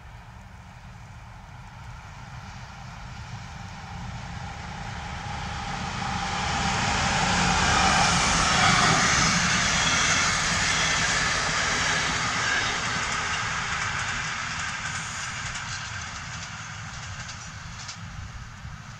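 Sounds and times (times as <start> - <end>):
diesel locomotive engine: 0.0 - 18.9
train coaches rolling by: 0.0 - 18.9.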